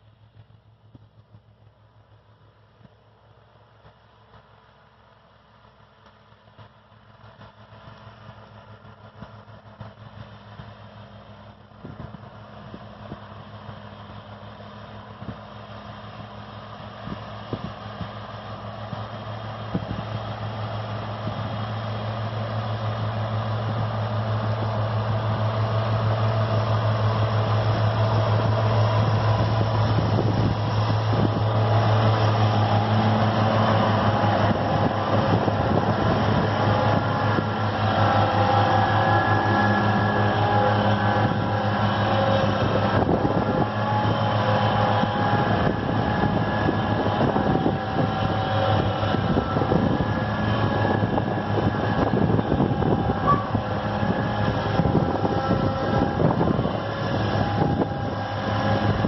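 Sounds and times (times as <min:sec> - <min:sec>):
tractor engine hum: 0:00.0 - 0:59.0.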